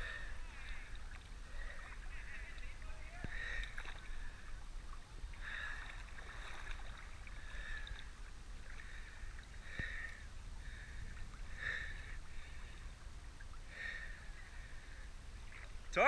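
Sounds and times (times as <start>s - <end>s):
low steady rumble: 0.0s - 16.0s
river water lapping and gurgling: 0.0s - 16.0s.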